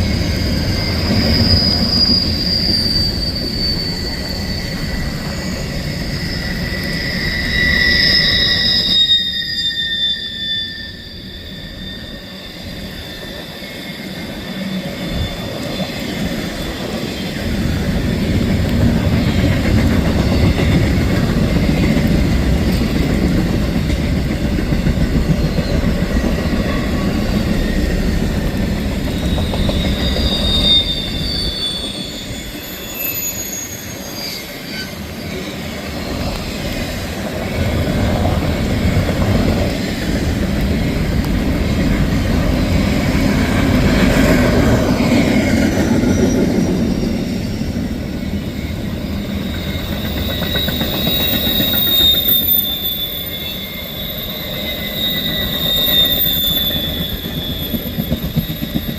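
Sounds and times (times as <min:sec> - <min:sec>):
faint high wheel squeal: 0:00.0 - 0:58.9
train wheels rumbling on rails: 0:00.0 - 0:58.9.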